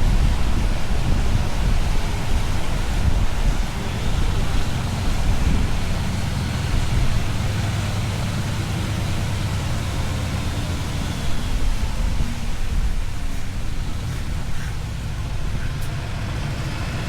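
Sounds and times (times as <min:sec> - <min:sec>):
diesel truck engine rumbling: 0:00.0 - 0:17.0
wind and road noise: 0:00.0 - 0:17.0.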